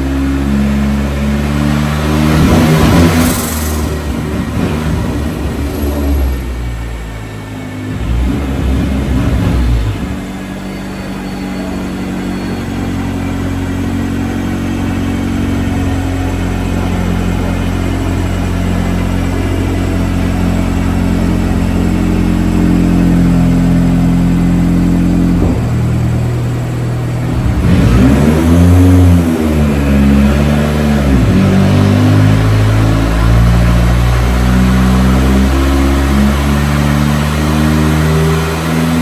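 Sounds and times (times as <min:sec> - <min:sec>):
truck engine running under load: 0:00.0 - 0:39.0.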